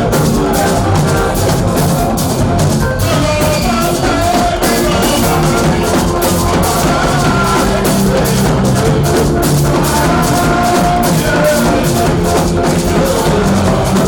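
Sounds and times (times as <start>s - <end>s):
drum kit beat: 0.0s - 14.0s
live band music: 0.0s - 14.0s
person singing: 0.0s - 14.0s.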